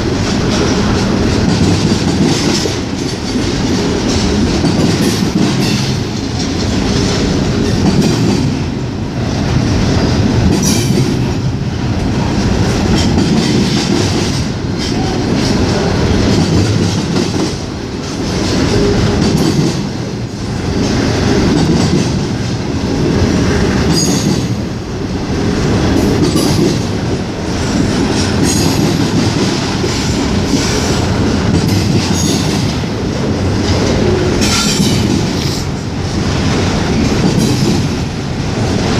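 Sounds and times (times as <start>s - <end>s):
train wheels rumbling on rails: 0.0s - 38.9s
wheels clacking over rail joints: 0.0s - 38.9s.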